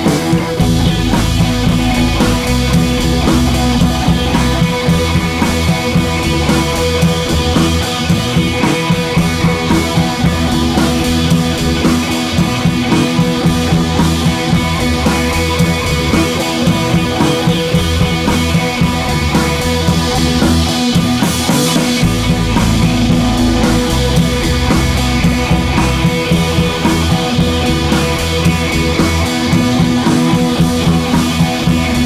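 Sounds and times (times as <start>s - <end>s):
rock music with drums and guitar: 0.0s - 32.0s.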